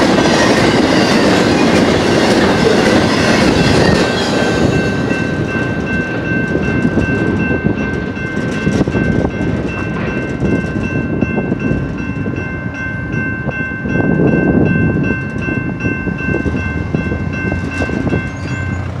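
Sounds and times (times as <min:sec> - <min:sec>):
freight train rumble: 0:00.0 - 0:19.0
railroad crossing bell ringing: 0:00.0 - 0:19.0.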